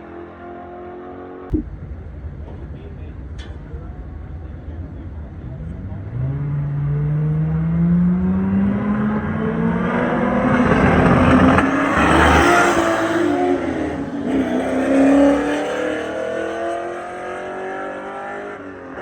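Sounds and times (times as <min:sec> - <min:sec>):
car engine accelerating: 0:01.5 - 0:19.0.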